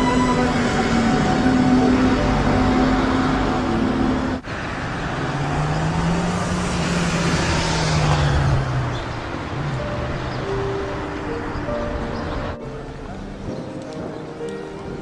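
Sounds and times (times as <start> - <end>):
vehicle passing: 0.0 - 12.6.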